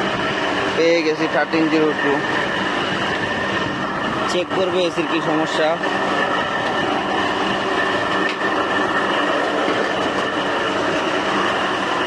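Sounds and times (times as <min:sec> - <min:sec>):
high steady whine: 0:00.0 - 0:12.0.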